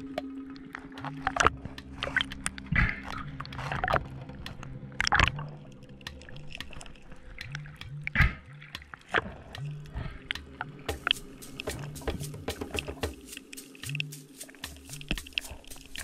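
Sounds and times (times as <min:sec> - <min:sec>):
underwater clicks and crackles: 0:00.0 - 0:16.0
underwater rushing and bubbling: 0:00.0 - 0:16.0.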